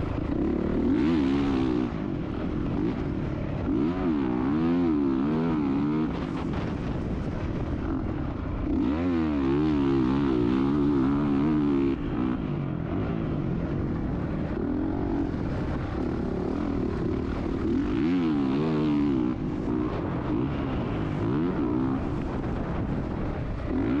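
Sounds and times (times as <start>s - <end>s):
motocross bike engine revving: 0.0s - 3.0s, 3.6s - 6.5s, 7.8s - 12.4s, 14.4s - 22.8s, 23.6s - 24.0s.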